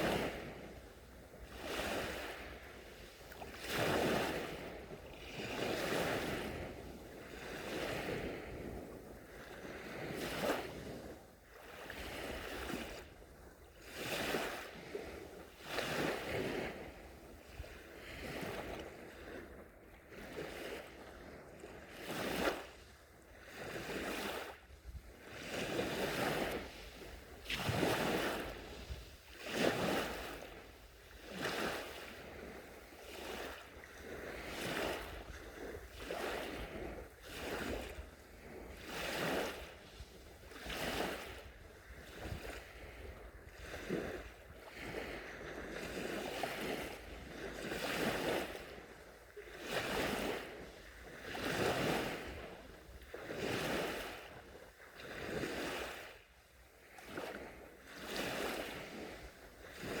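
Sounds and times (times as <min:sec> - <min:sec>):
small waves lapping on beach: 0:00.0 - 1:00.0.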